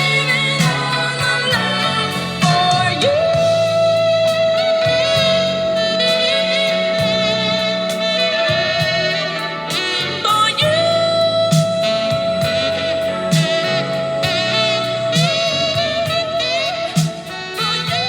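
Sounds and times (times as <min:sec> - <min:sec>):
band accompaniment: 0:00.0 - 0:18.0
saxophone long notes: 0:00.0 - 0:18.0.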